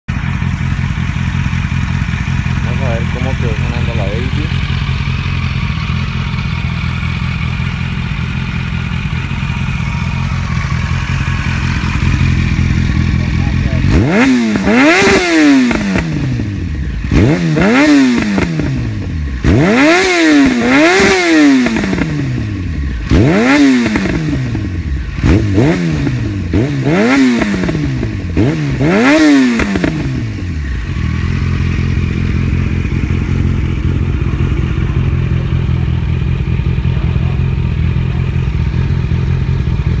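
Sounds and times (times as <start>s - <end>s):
motorcycle engine idling: 0.1s - 40.0s
motorcycle engine revving: 0.1s - 40.0s.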